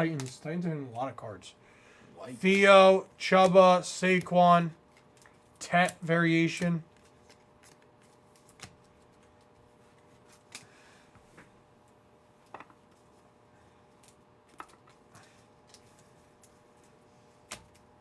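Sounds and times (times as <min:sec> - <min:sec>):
cards and foil packs rustling: 0:00.0 - 0:00.5, 0:02.2 - 0:11.0, 0:12.7 - 0:18.0.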